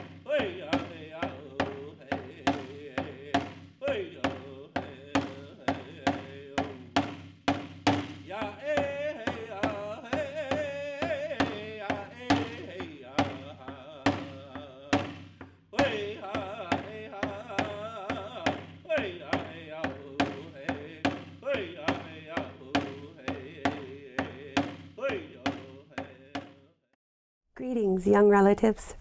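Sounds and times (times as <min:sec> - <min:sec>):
steady drum beat: 0:00.0 - 0:26.6.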